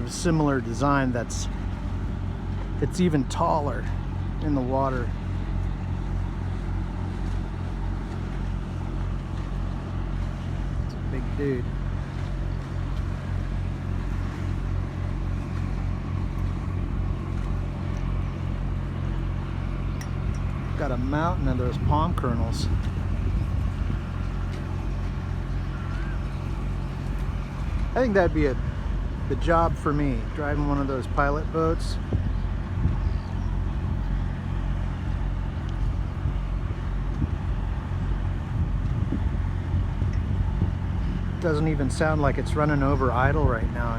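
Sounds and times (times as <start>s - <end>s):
boat diesel engine rumbling: 0.0s - 43.9s.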